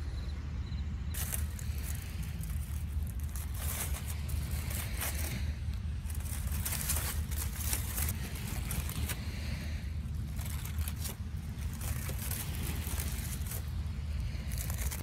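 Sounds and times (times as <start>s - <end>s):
steady low rumble: 0.0s - 15.0s
aluminium foil crinkling: 1.2s - 15.0s.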